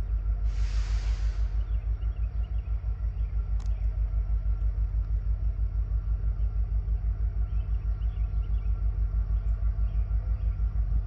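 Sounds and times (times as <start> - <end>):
distant diesel locomotive rumble: 0.0 - 11.0.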